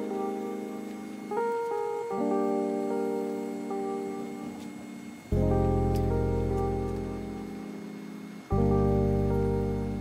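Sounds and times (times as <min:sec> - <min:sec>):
soft instrumental low chord: 0:00.0 - 0:10.0.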